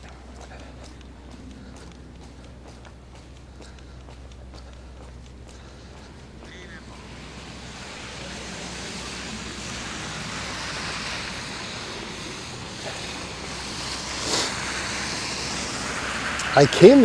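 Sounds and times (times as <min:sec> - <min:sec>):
car tyres hissing on wet street: 0:00.0 - 0:17.0.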